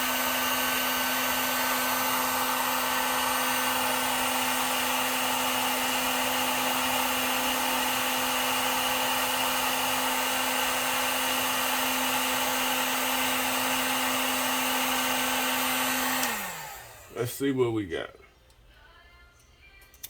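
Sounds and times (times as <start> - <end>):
heat gun fan humming: 0.0 - 20.0.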